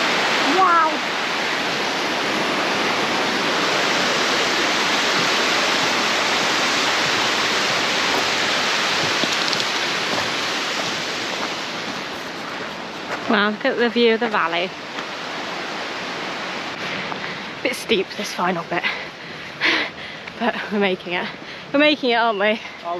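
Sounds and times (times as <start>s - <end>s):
water rushing down rocky stream: 0.0s - 20.0s.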